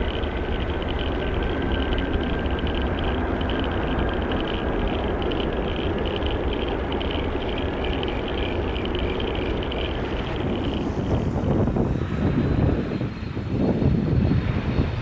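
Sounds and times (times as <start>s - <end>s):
faint high whine: 0.0s - 15.0s
jet engines rumbling: 0.0s - 15.0s.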